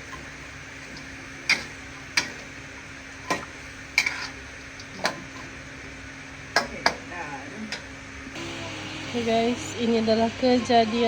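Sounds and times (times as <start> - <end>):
frying hiss: 0.0 - 11.0.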